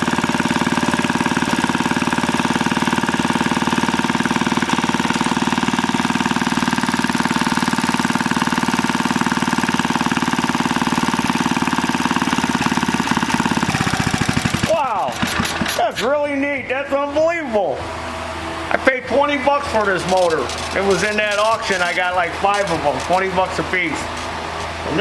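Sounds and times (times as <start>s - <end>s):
small engine running: 0.0s - 16.2s, 17.7s - 25.0s.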